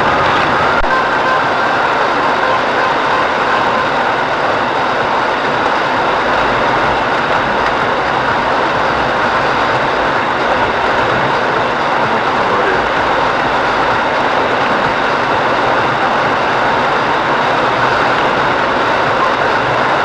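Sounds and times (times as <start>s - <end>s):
engine and road rumble: 0.0s - 20.0s
heater fan blowing: 0.0s - 20.0s.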